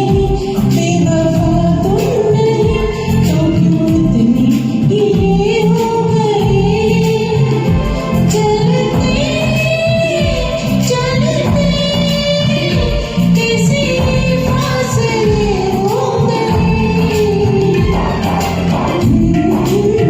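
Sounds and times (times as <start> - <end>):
duet singing over backing track: 0.0 - 20.0.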